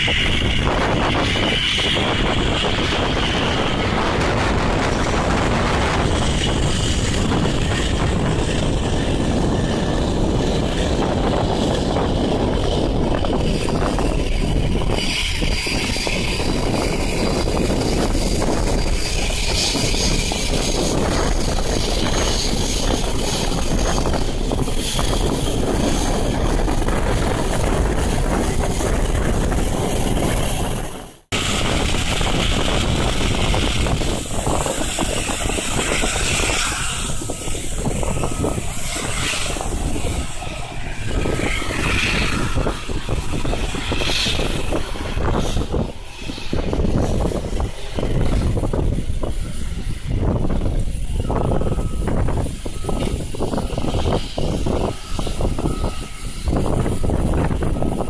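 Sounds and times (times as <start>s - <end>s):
jet airliner engines rumbling: 0.0s - 58.0s.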